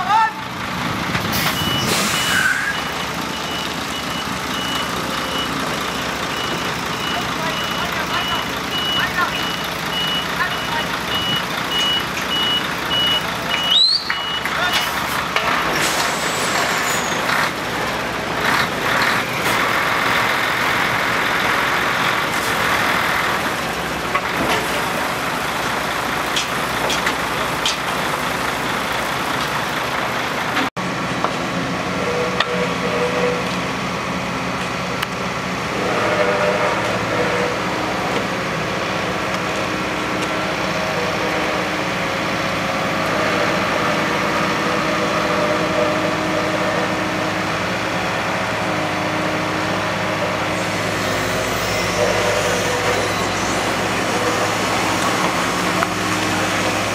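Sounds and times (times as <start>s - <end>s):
excavator diesel engine: 0.0s - 56.9s
truck engine running: 0.0s - 56.9s.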